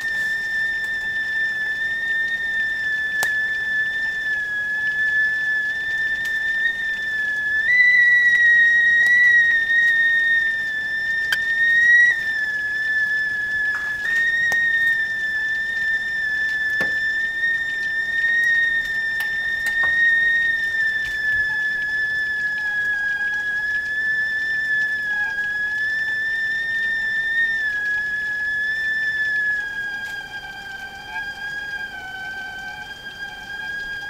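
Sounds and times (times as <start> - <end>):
tea kettle whistling: 0.0 - 34.0.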